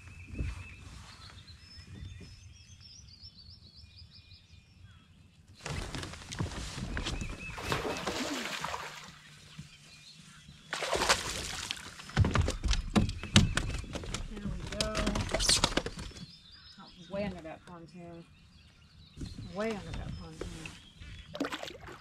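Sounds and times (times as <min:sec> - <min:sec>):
small birds chirping faintly: 0:00.0 - 0:22.0.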